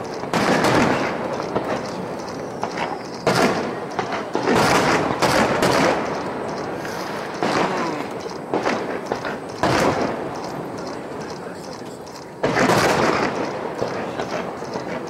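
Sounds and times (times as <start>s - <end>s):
firework shells bursting: 0.0s - 15.0s.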